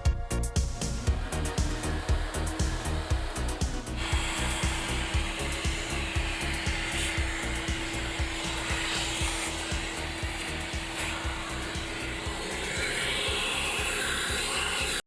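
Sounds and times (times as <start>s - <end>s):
background music with steady beat: 0.0s - 15.0s
vacuum cleaner motor running: 0.6s - 15.0s.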